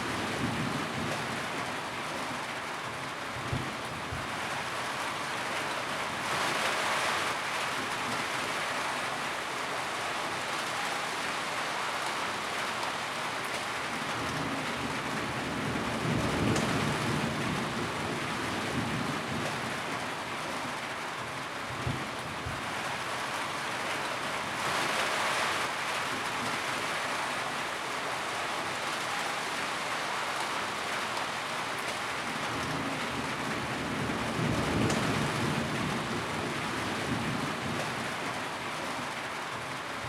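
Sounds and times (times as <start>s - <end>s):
rain drumming on a tin roof: 0.0s - 40.0s.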